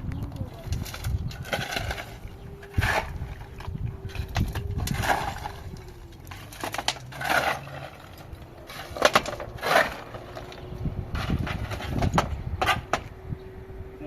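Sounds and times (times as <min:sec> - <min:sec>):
scraping strokes: 0:00.6 - 0:13.0.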